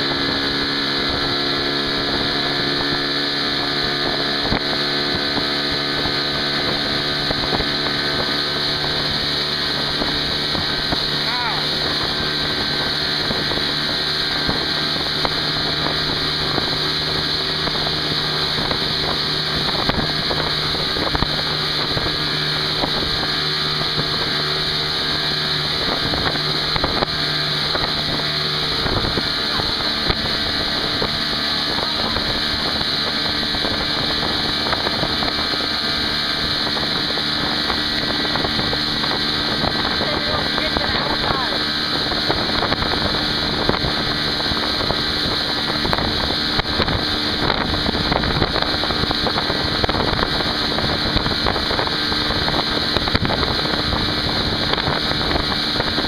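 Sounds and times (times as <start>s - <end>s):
motorboat engine running: 0.0s - 56.0s
water rushing in wake: 0.0s - 56.0s
wind on microphone: 0.0s - 56.0s.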